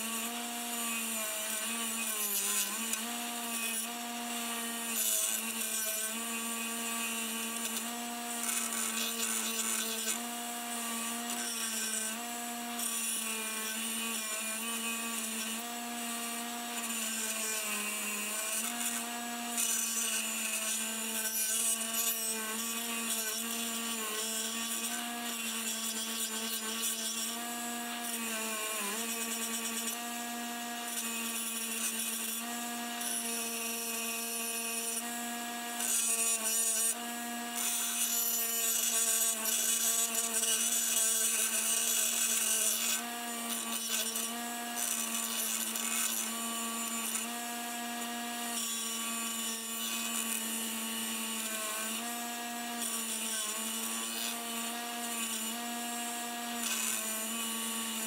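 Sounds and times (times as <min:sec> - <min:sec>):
bench grinder motor running: 0:00.0 - 0:58.0
metal scrubbing on grinding wheel: 0:00.0 - 0:58.0.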